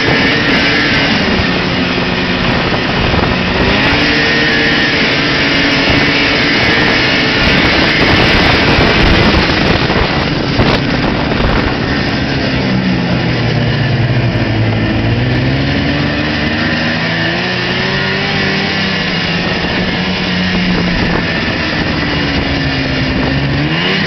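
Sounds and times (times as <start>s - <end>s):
rushing noise: 0.0s - 24.0s
snowmobile engine running: 0.0s - 24.0s.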